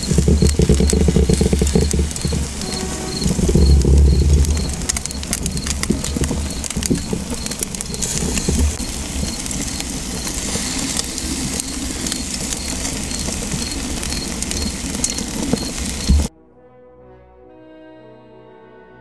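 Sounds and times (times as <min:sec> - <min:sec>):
charcoal flames rumbling: 0:00.0 - 0:16.3
fire crackling: 0:00.0 - 0:16.3.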